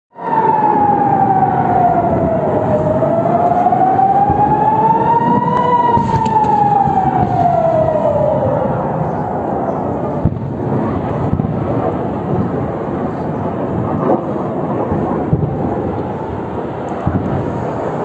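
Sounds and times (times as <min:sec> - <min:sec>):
air-raid siren wailing: 0:00.2 - 0:18.0.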